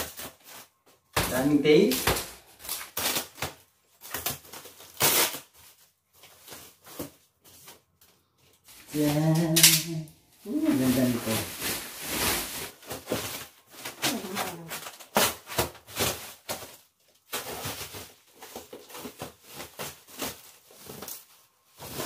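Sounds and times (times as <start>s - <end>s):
plastic sheeting and bubble wrap crinkling: 0.0s - 22.0s.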